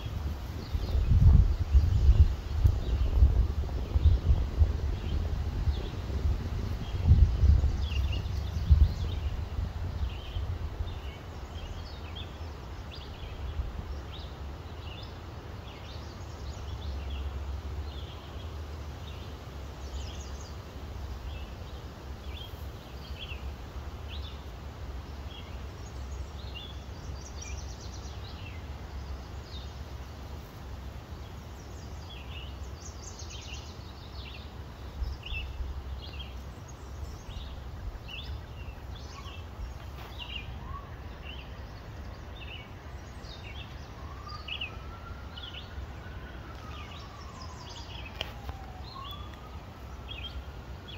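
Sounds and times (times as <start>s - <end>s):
birds chirping: 6.7s - 50.9s.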